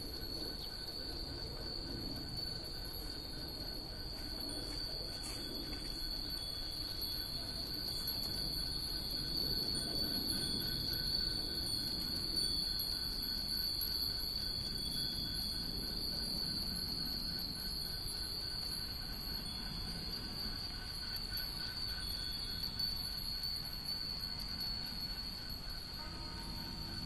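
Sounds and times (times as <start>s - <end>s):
wind bells tinkling: 0.0s - 27.0s.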